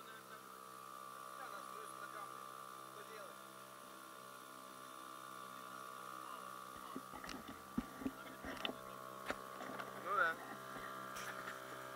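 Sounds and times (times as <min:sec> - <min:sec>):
outboard motor running: 0:00.0 - 0:11.9.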